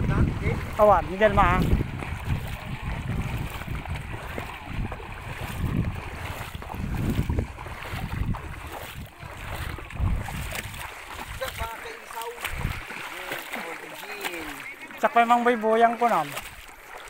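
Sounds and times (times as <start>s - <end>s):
wind buffeting microphone: 0.0s - 14.6s
rushing river water: 0.0s - 17.0s.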